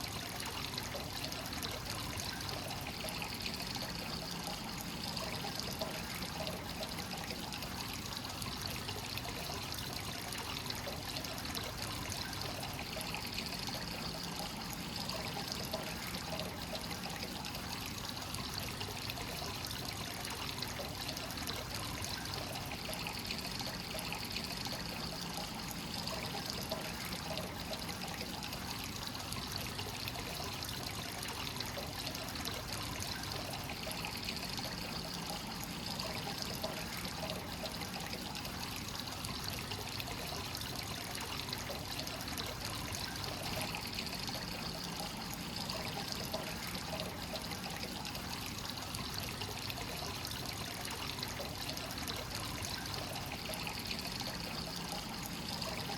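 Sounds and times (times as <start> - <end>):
water pouring into a bath: 0.0 - 55.9.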